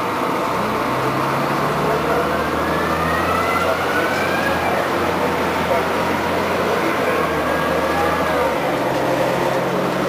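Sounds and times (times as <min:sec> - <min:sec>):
bus engine accelerating: 0:00.0 - 0:10.0.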